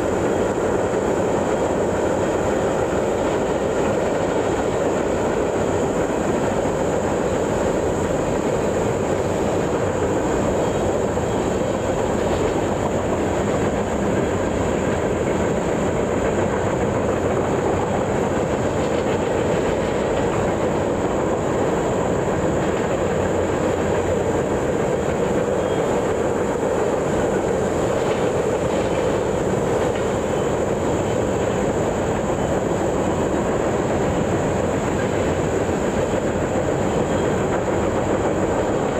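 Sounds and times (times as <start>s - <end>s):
steel train wheels on rails: 0.0s - 38.9s.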